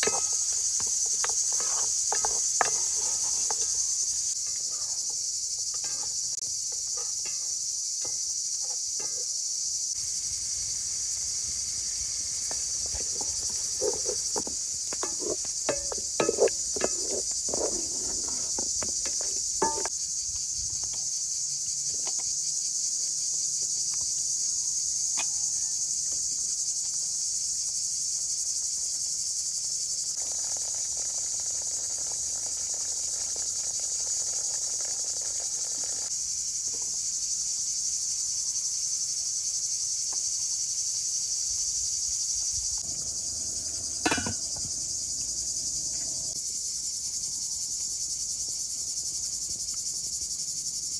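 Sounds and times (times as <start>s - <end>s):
crickets chirring: 0.0s - 50.9s.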